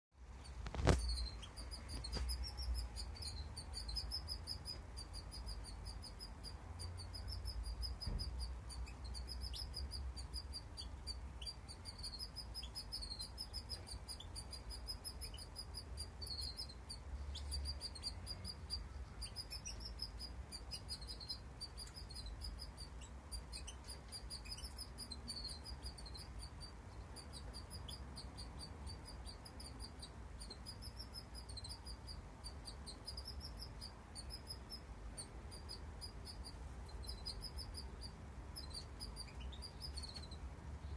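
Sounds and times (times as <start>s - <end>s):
finches chirping: 0.3s - 40.9s.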